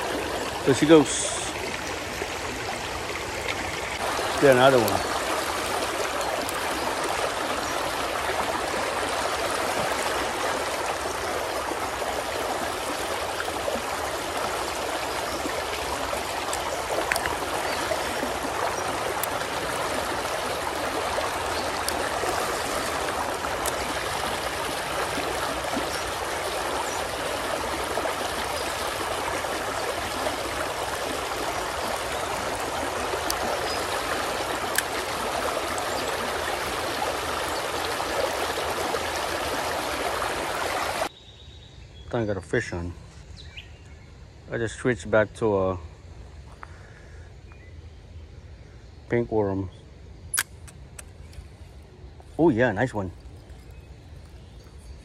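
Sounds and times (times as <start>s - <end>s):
creek water running over stones: 0.0s - 41.1s, 50.3s - 55.0s.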